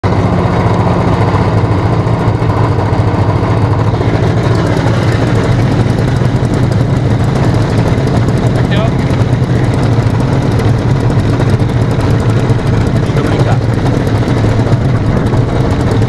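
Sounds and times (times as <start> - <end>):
model aircraft engines running: 0.0 - 16.0.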